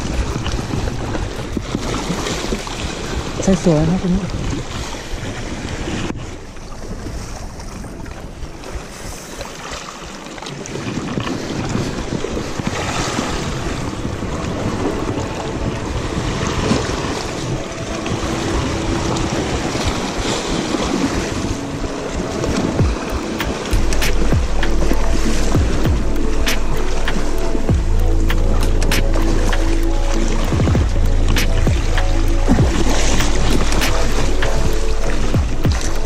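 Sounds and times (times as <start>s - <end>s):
sea waves: 0.0s - 36.0s
wind buffeting microphone: 0.0s - 36.0s.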